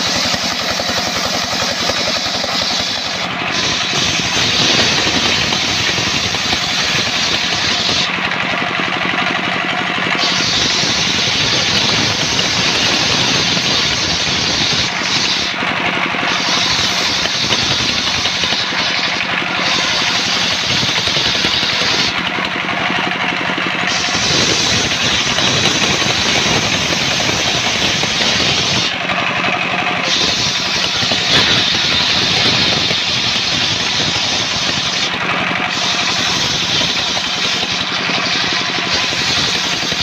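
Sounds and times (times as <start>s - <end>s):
machine humming: 0.0s - 40.0s
saw blade ripping wood: 0.0s - 40.0s.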